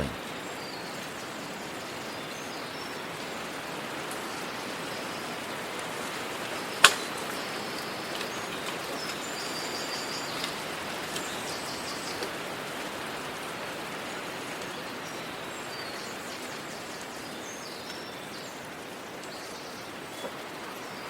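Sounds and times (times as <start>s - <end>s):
outdoor noise hiss: 0.0s - 21.0s.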